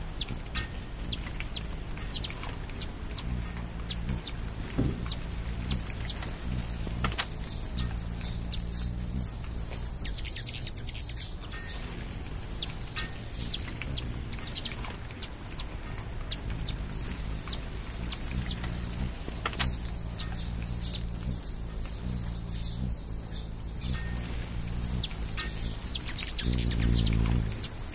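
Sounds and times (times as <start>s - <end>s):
bird chirps: 0.0s - 27.9s
insect trill: 0.0s - 27.9s
low hum: 0.0s - 27.9s.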